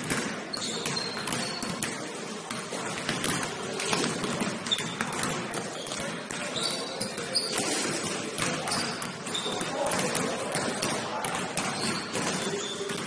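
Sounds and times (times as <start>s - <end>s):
basketball bouncing: 0.0s - 13.0s
sneakers squeaking on court: 0.0s - 13.0s
players' voices: 0.2s - 13.0s.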